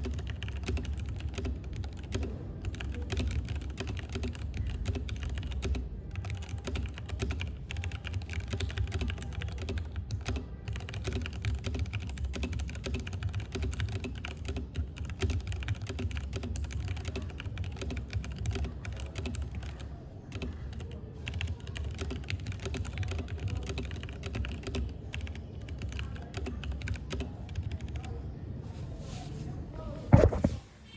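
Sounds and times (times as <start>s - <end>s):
mechanical keyboard typing: 0.0s - 28.2s.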